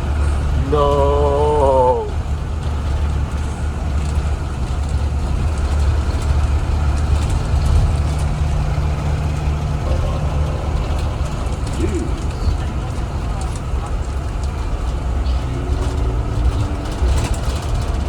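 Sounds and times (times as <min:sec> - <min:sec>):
bus engine and road drone: 0:00.0 - 0:18.0.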